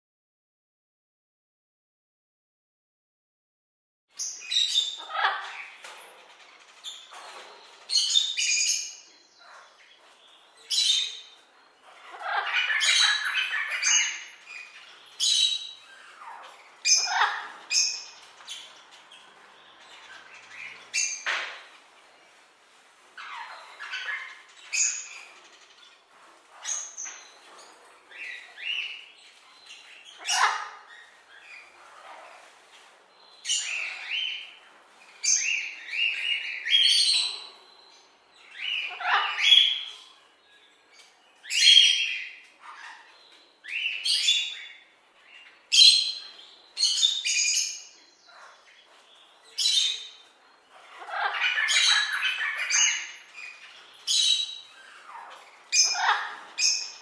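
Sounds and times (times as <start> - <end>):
parrots squawking and chirping: 4.2 - 57.0.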